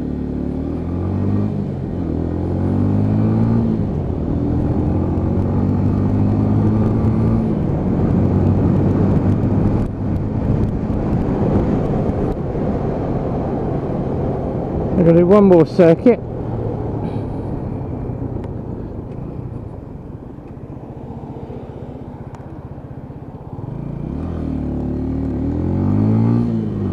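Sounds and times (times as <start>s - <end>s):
motorcycle engine accelerating: 0.0s - 26.9s
wind and road rush: 0.0s - 26.9s.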